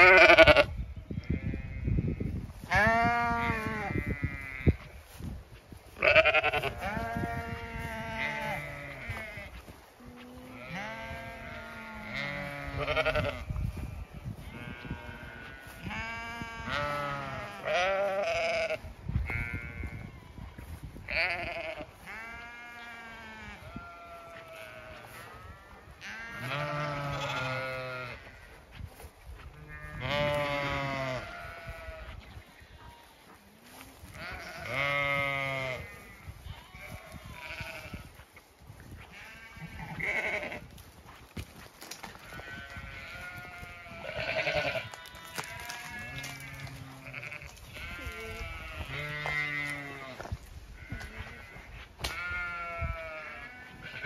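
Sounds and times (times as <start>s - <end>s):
sheep bleating: 0.0s - 4.8s, 5.9s - 28.5s, 29.5s - 32.2s, 33.7s - 38.1s, 39.1s - 40.7s, 42.3s - 54.0s
wind buffeting microphone: 0.3s - 22.7s, 23.5s - 32.9s, 34.0s - 45.0s, 45.8s - 54.0s.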